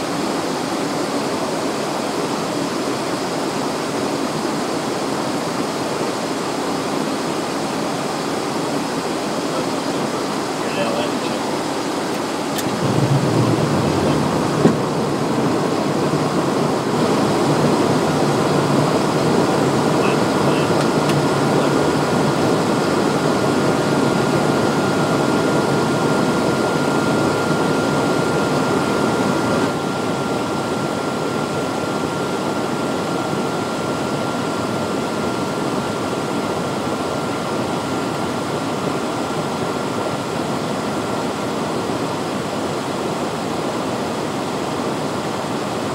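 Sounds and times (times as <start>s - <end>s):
faint steady whine: 0.0s - 45.9s
jet engine and airflow noise: 0.0s - 45.9s.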